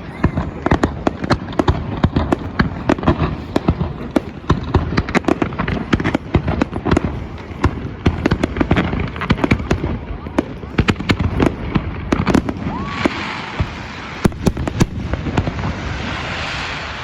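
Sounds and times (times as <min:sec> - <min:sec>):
fireworks bangs and cracks: 0:00.0 - 0:17.0
rumble of firework bursts: 0:00.0 - 0:17.0.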